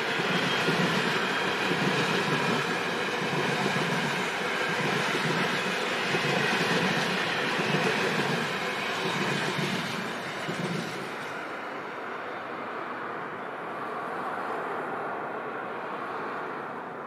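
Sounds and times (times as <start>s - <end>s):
train wheels running on rails: 0.0s - 13.8s.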